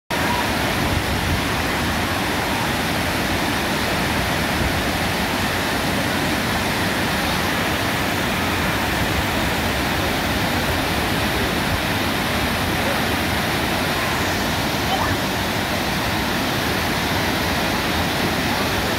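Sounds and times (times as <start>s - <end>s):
waterfall rushing: 0.1s - 18.9s.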